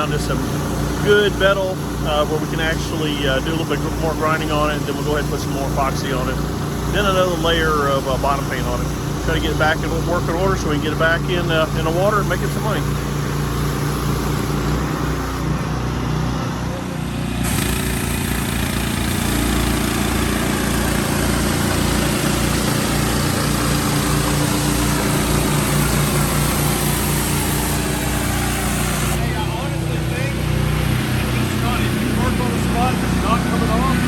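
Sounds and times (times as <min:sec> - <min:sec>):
water jet hissing: 0:00.0 - 0:15.6, 0:17.3 - 0:34.0
small engine droning: 0:00.0 - 0:34.0.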